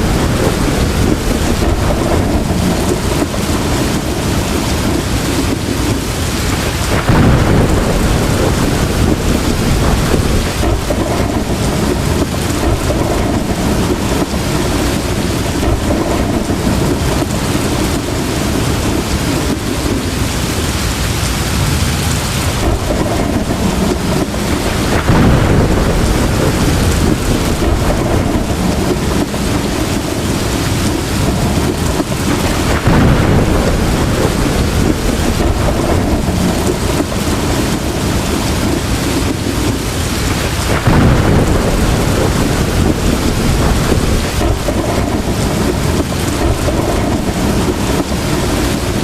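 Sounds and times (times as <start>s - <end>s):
heavy rain pouring: 0.0s - 49.0s
thunder rumbling: 0.0s - 49.0s.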